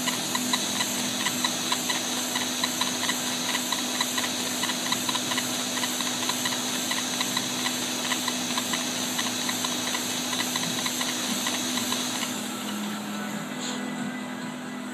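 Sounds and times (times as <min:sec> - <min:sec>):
regular ticking: 0:00.0 - 0:12.5
laser engraver hum and hiss: 0:00.0 - 0:14.9.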